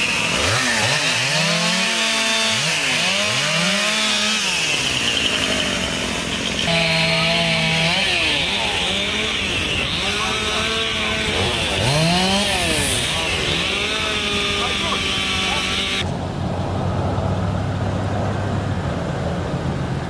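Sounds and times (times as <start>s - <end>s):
chainsaw engine revving: 0.0s - 16.1s.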